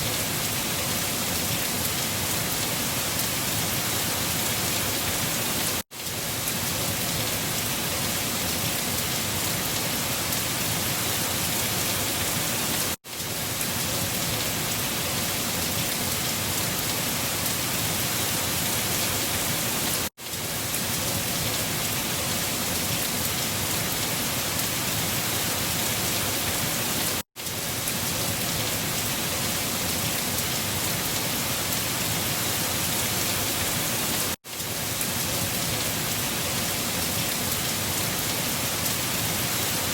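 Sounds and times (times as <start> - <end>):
rain: 0.0 - 39.9.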